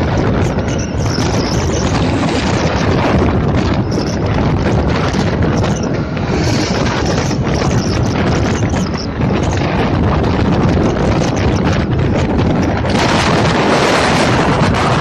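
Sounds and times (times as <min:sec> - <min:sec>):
road noise: 0:00.0 - 0:14.5
wind rushing over microphone: 0:00.0 - 0:15.0.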